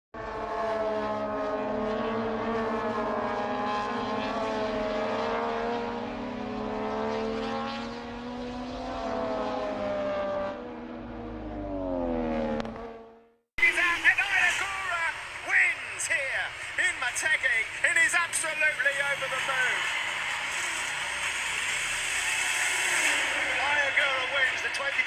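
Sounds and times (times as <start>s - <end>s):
racing motorcycle engine revving: 0.2s - 13.4s, 17.6s - 25.0s.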